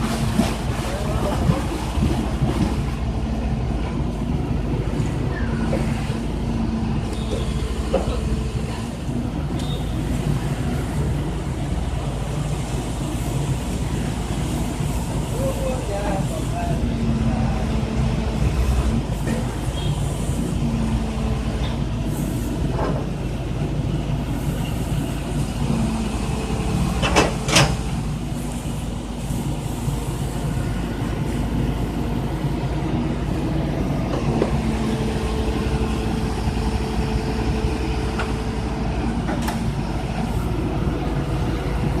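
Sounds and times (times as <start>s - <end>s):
drilling rig engine running: 0.0s - 42.0s.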